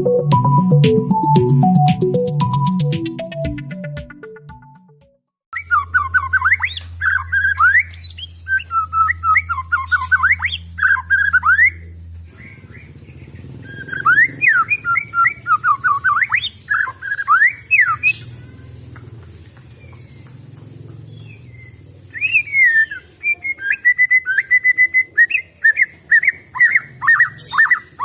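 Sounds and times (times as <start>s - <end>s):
songbird singing: 5.5s - 28.0s.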